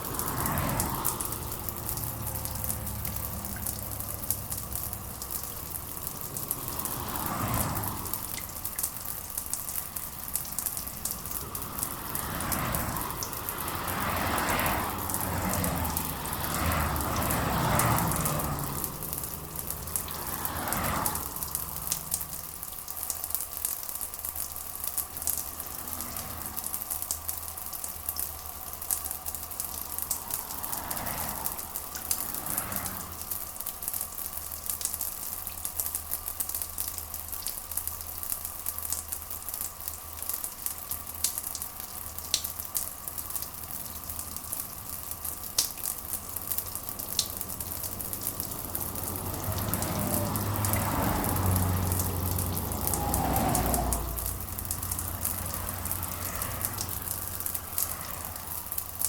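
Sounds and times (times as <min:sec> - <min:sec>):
rain drops crackling: 0:00.0 - 0:59.0.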